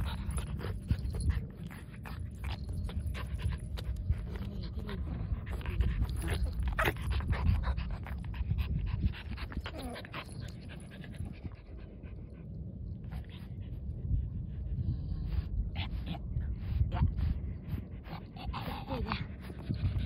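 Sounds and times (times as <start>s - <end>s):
dogs panting and snuffling: 0.0s - 20.0s
wind rumbling on microphone: 0.0s - 20.0s.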